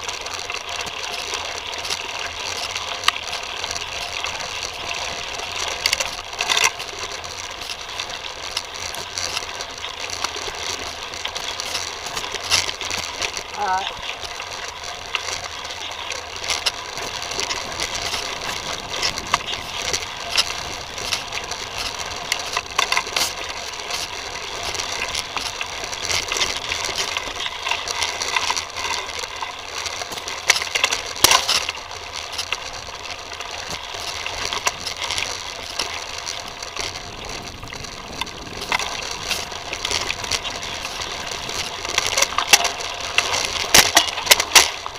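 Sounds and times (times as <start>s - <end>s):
bike tyres crunching on dirt trail: 0.0s - 44.9s.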